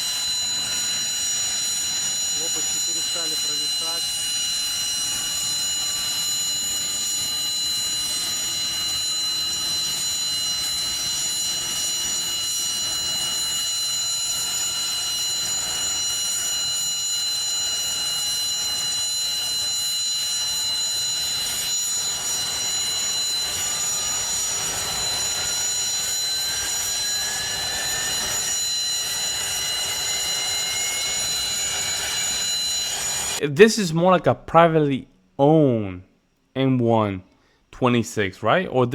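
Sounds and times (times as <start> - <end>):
helicopter turbine whine: 0.0 - 33.4
rising turbine tone: 0.0 - 33.4.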